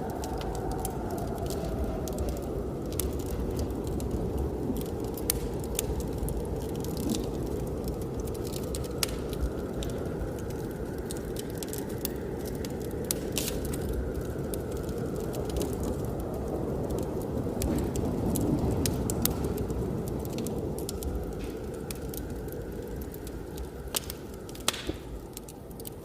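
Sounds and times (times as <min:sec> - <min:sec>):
blizzard wind rushing: 0:00.0 - 0:26.0
wood fire crackling and popping: 0:00.0 - 0:26.0.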